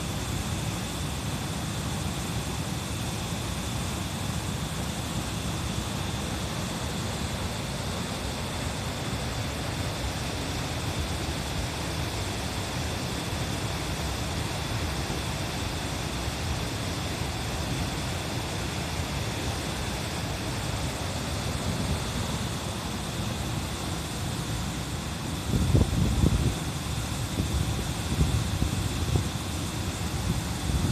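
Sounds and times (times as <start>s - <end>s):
rushing stream water: 0.0s - 30.9s.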